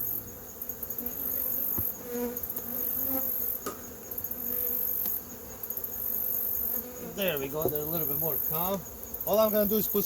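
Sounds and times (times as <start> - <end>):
bees buzzing: 0.0 - 10.0
pulsing insect chorus: 0.0 - 10.0.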